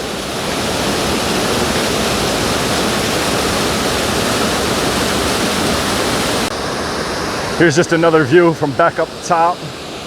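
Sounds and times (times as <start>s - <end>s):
waterfall pouring: 0.0s - 10.0s.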